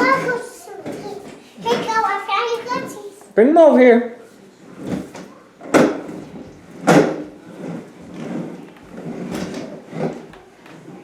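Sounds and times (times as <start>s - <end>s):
toys scraping and sliding: 0.0s - 3.2s, 4.6s - 11.0s.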